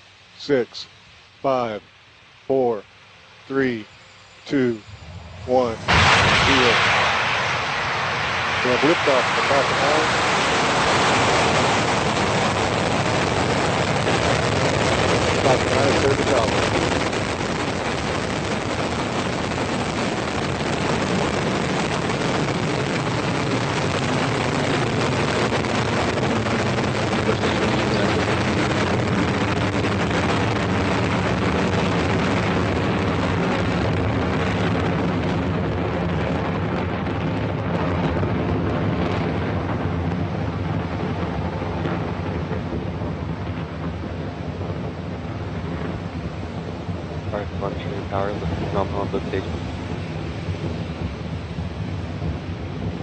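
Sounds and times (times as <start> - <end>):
rocket engines roaring: 0.0 - 53.0.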